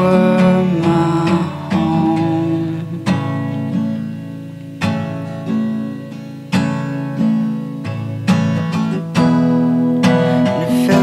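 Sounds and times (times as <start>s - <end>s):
slow acoustic guitar strumming: 0.0s - 11.0s.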